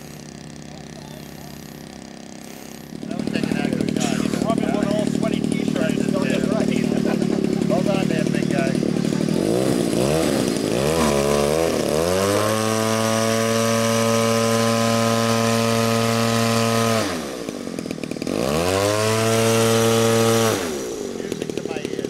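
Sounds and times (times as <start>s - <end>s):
model plane engine running: 0.0s - 22.0s.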